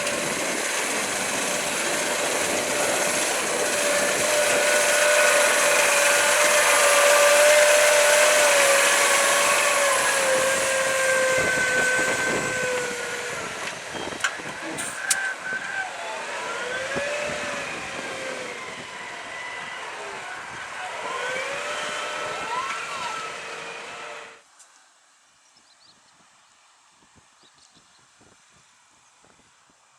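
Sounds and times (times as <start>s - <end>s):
steady whine: 0.0s - 24.4s
tractor diesel engine under load: 0.0s - 24.4s.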